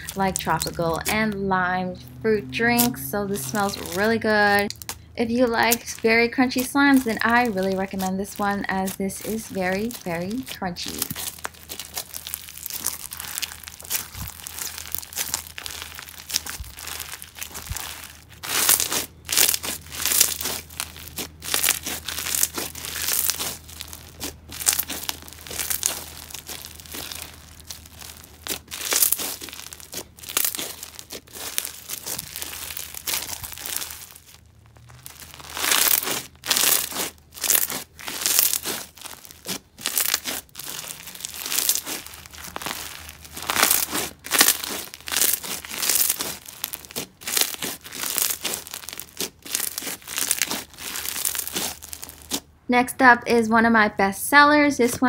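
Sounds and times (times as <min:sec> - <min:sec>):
slime crunching by hand: 0:00.0 - 0:52.6.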